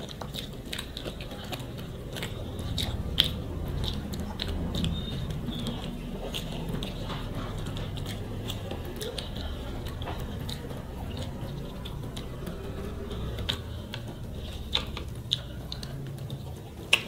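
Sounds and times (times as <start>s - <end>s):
chewing and wet mouth sounds: 0.0s - 17.0s.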